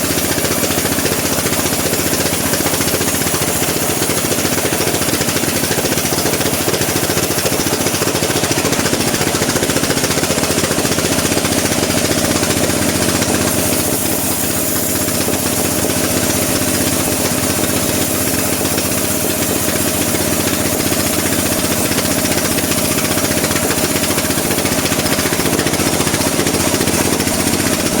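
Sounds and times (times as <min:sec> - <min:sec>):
bandsaw mill engine pulsing: 0:00.0 - 0:28.0
saw hissing through wood: 0:00.0 - 0:28.0.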